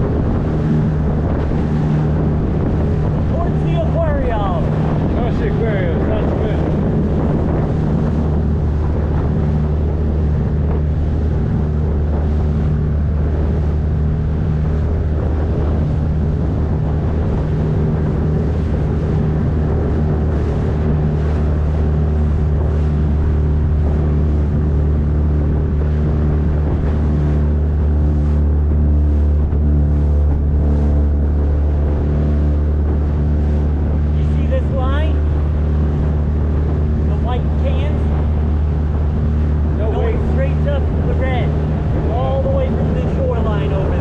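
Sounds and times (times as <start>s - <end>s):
outboard motor running: 0.0s - 44.0s
water rushing along hull: 0.0s - 44.0s
wind on microphone: 0.0s - 44.0s.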